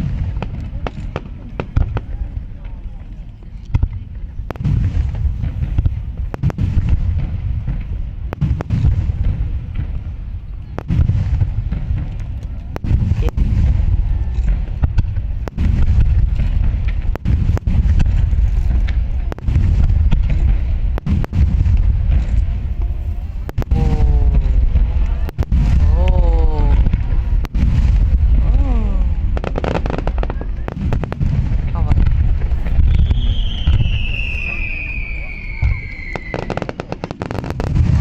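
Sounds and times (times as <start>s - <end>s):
fireworks booming: 0.0s - 38.0s
fireworks cracking: 0.0s - 38.0s.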